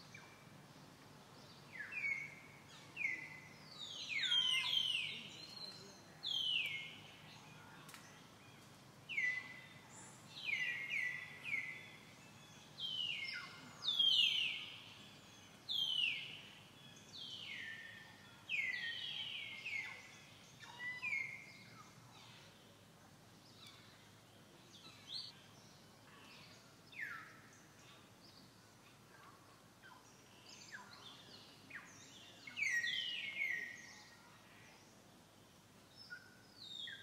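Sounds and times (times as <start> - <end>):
faint steady background noise: 0.0 - 37.0.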